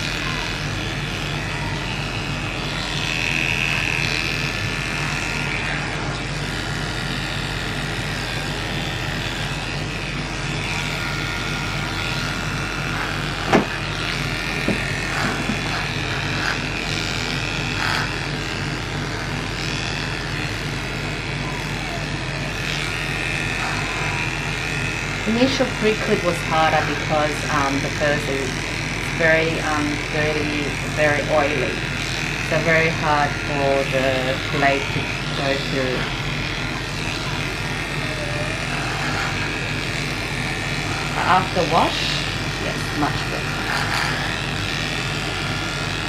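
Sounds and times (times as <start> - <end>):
electric clippers humming: 0.0 - 46.0.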